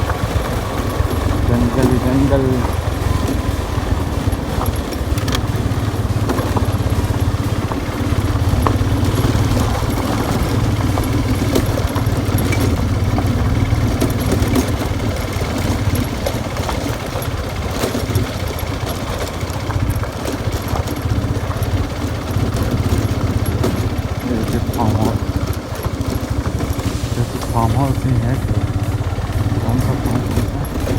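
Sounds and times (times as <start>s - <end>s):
motorcycle engine rumbling: 0.0s - 30.9s.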